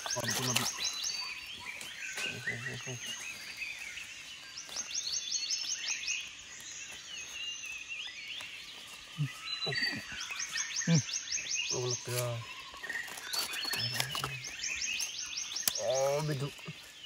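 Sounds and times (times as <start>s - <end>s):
birds calling: 0.0s - 17.0s
insects calling: 0.0s - 17.0s
steady outdoor hiss: 0.0s - 17.0s.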